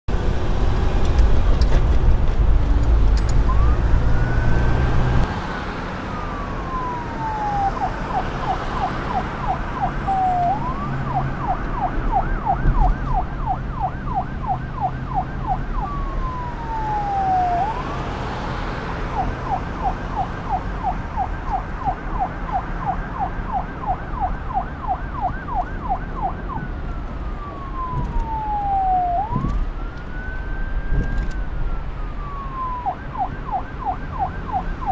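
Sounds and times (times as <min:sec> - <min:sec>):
police car siren: 0:03.2 - 0:34.9.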